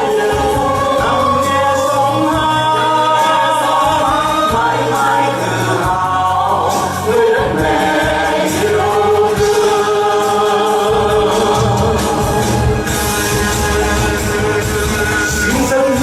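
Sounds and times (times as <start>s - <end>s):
backing music: 0.0s - 16.0s
group singing in chorus: 0.0s - 16.0s.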